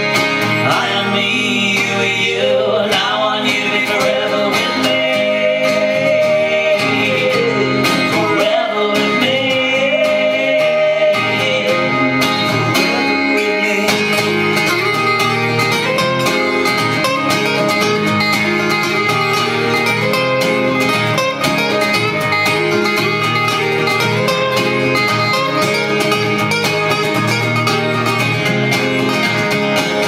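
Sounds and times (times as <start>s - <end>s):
acoustic guitar picking and strumming: 0.0s - 30.0s.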